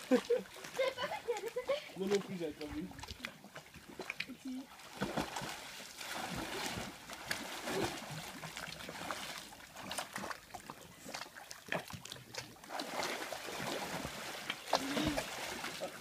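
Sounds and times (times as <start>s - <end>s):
pool water splashing and lapping: 0.0s - 16.0s.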